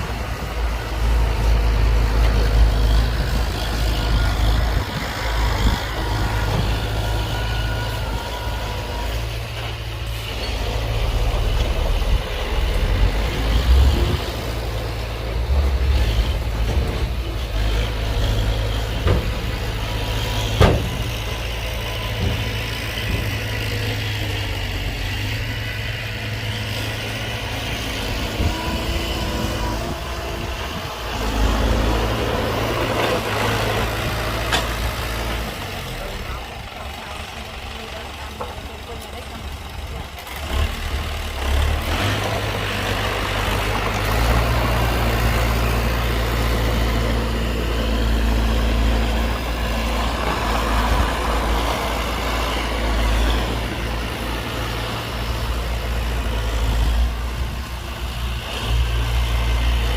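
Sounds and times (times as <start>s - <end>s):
heavy diesel engines rumbling: 0.0s - 59.9s.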